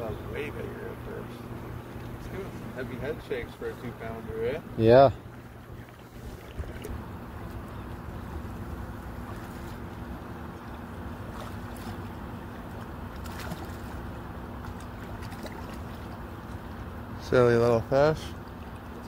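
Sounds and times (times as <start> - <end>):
low hum: 0.0 - 19.0
wind: 0.0 - 19.0.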